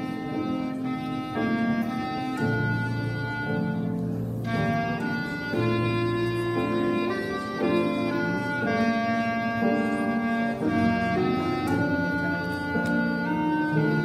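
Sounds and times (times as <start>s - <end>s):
clarinet melody: 0.0s - 14.0s
grand piano: 0.0s - 14.0s.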